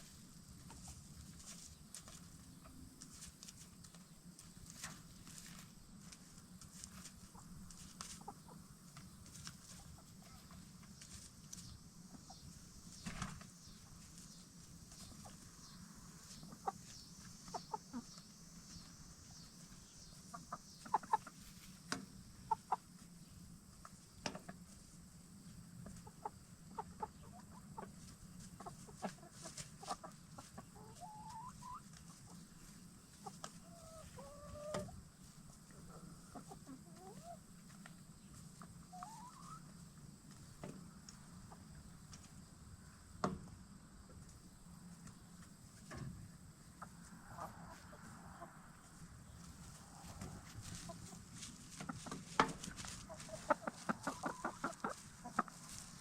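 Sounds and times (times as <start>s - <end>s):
hens clucking: 0.0s - 42.5s, 44.2s - 56.0s.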